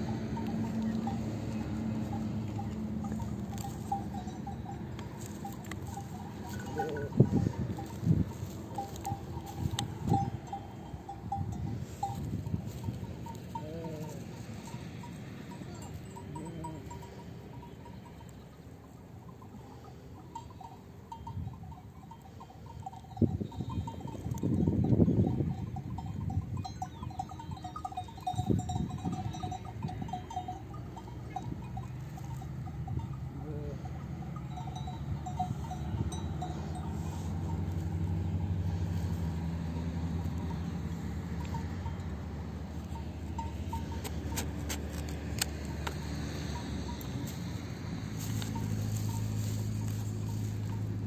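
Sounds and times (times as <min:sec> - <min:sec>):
small bells clinking: 0:00.0 - 0:51.0.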